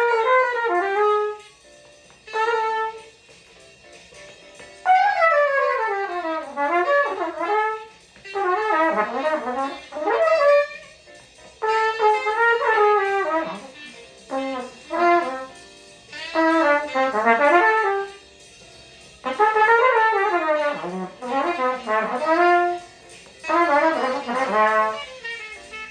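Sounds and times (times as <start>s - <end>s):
trumpet playing fast phrases: 0.0s - 1.5s, 2.3s - 3.2s, 4.8s - 11.0s, 11.6s - 18.2s, 19.2s - 25.9s.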